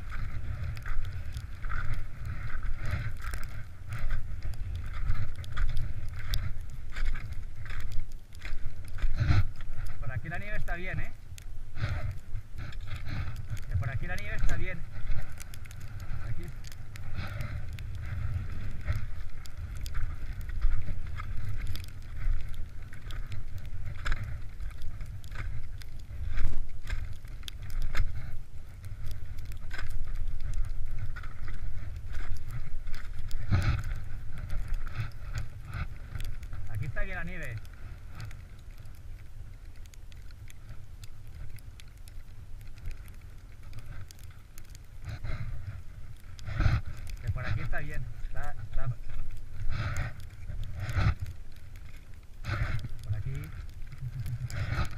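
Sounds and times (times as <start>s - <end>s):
sharp clicks and crackles: 0.0s - 54.9s
skis scraping over crusty snow: 0.0s - 54.9s
wind rumble on microphone: 0.0s - 54.9s.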